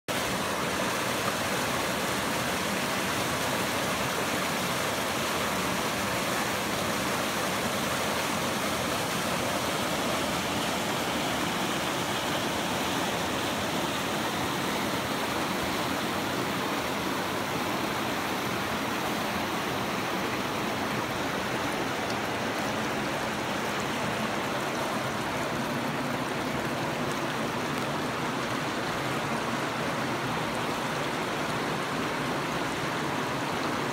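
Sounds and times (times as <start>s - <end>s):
waterfall rushing over rocks: 0.1s - 33.9s.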